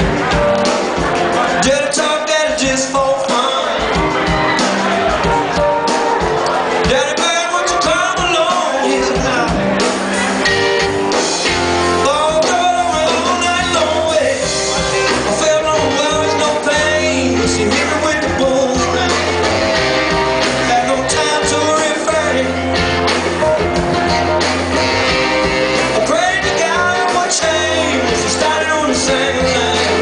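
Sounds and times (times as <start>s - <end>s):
bass line: 0.0s - 30.0s
drums: 0.0s - 30.0s
electric guitar: 0.0s - 30.0s.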